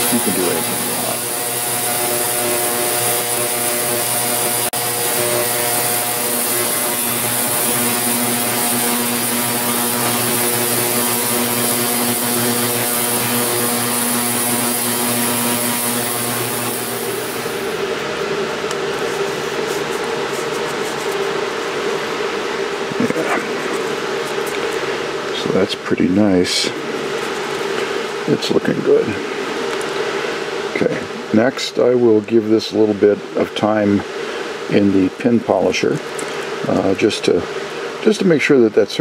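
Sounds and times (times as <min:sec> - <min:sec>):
buzzing hum: 0:00.0 - 0:31.2
ultrasonic cleaner hiss: 0:00.0 - 0:39.0.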